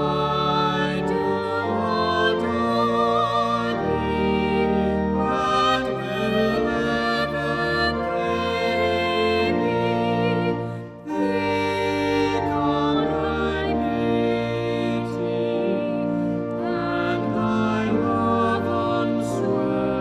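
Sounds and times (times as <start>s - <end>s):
music with long held notes: 0.0s - 20.0s.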